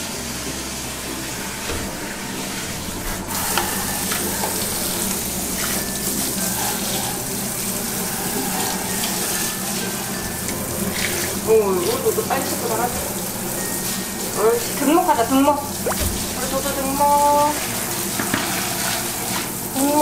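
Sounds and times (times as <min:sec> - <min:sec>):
shower spraying water: 0:00.0 - 0:20.0.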